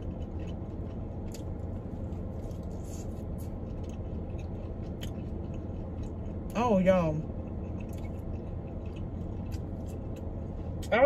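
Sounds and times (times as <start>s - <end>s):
person chewing: 0.0s - 6.6s, 7.2s - 10.9s
air conditioning hum: 0.0s - 11.0s.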